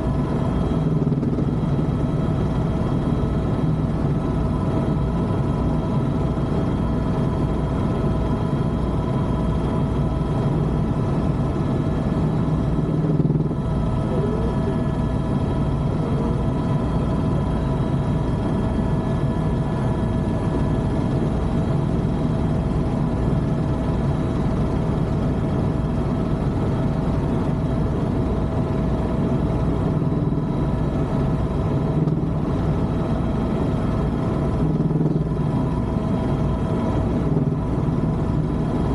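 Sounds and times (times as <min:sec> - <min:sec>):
helicopter engine whine: 0:00.0 - 0:38.9
helicopter rotor beat: 0:00.0 - 0:38.9.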